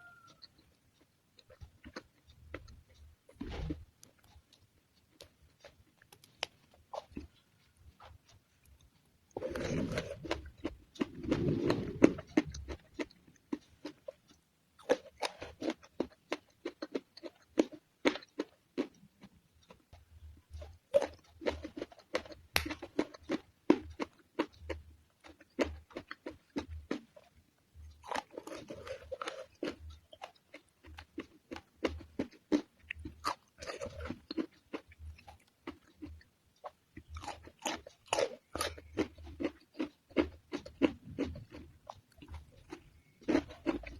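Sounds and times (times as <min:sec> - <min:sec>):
crunchy chewing: 0:00.0 - 0:43.9.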